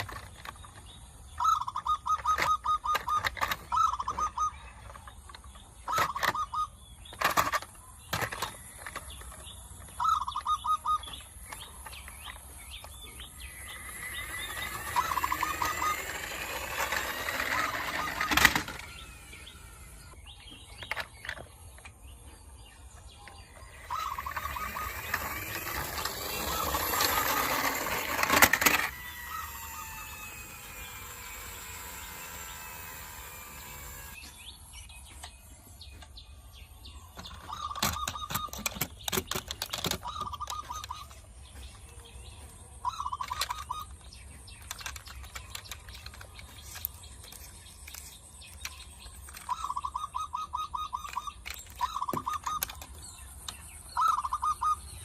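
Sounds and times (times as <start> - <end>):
toy whirring: 0.0 - 22.0, 23.2 - 34.6, 37.0 - 41.9, 42.5 - 55.0
plastic toy trucks clicking and rattling: 0.0 - 34.2, 36.9 - 41.9, 42.6 - 54.3.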